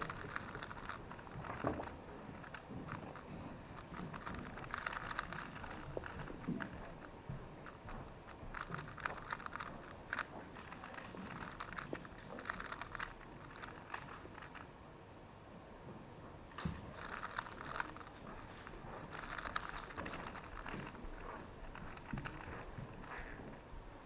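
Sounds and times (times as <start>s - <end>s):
plastic cube clicking: 0.0s - 14.7s, 16.6s - 23.4s.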